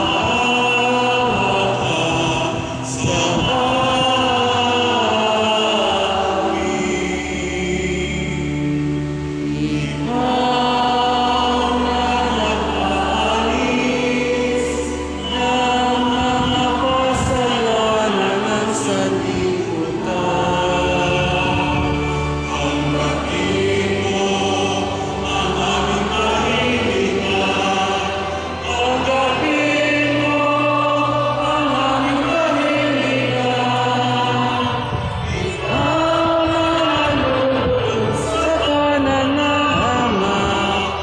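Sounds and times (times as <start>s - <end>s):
choir singing a hymn: 0.0s - 41.0s.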